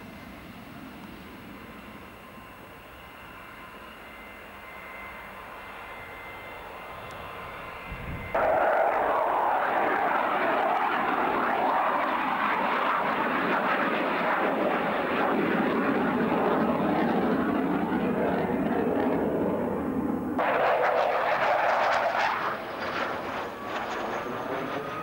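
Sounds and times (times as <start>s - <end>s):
jet flying overhead: 0.0s - 25.0s.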